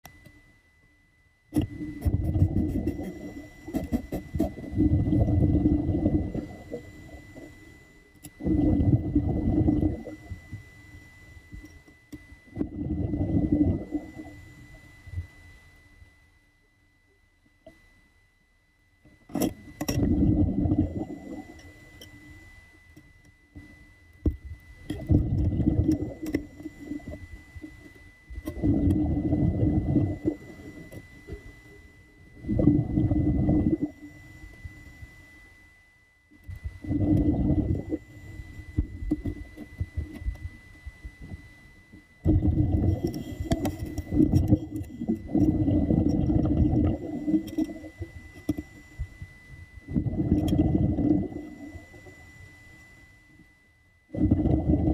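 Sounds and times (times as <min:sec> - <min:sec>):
water sloshing and gurgling: 0:01.5 - 0:15.4, 0:19.1 - 0:22.2, 0:23.1 - 0:35.0, 0:36.4 - 0:52.9, 0:54.0 - 0:54.9.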